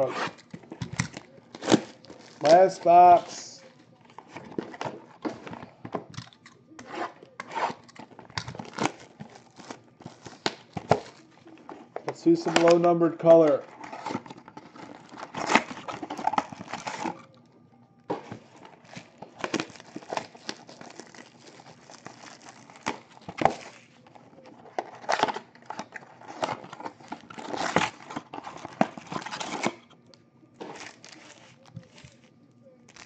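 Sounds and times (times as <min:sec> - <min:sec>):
foil packs crinkling: 0:00.0 - 0:06.4, 0:07.2 - 0:17.4, 0:18.1 - 0:29.9, 0:30.6 - 0:32.3.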